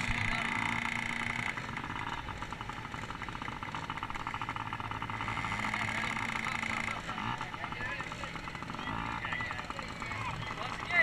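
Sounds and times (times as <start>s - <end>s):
motocross bike engines running: 0.0s - 11.0s.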